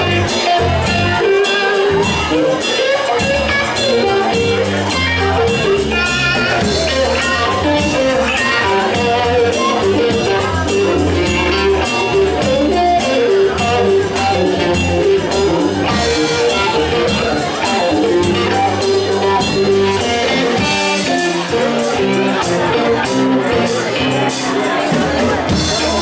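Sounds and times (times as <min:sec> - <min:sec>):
bass guitar: 0:00.0 - 0:26.0
drum kit beat: 0:00.0 - 0:26.0
electric guitars: 0:00.0 - 0:26.0.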